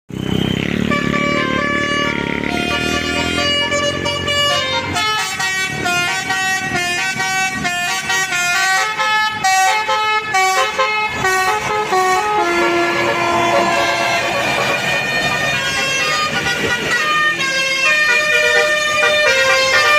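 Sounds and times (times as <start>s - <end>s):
multi-tone bus horn playing tune: 0.3s - 19.9s.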